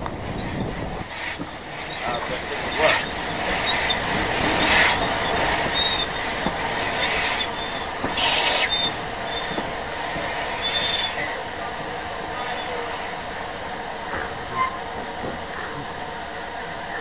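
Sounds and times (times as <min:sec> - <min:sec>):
train rumble: 0:00.0 - 0:17.0
wheels squealing: 0:00.3 - 0:11.4, 0:12.4 - 0:15.8
steam hiss bursts: 0:00.6 - 0:16.9.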